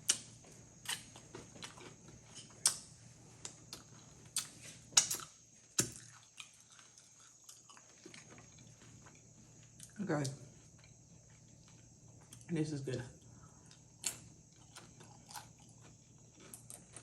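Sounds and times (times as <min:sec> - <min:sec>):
chewing crunchy chips: 0:00.0 - 0:02.8, 0:03.5 - 0:12.5, 0:13.6 - 0:17.0.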